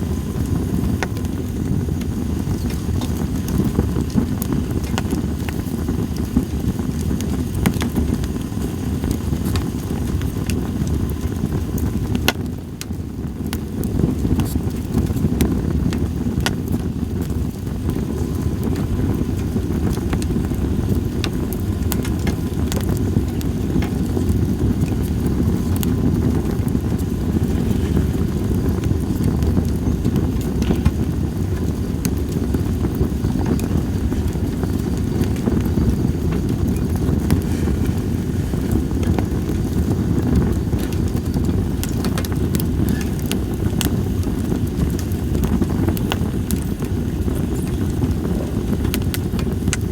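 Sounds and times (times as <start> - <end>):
campfire crackling and popping: 0.0 - 49.9
wind rumble on microphone: 0.0 - 49.9.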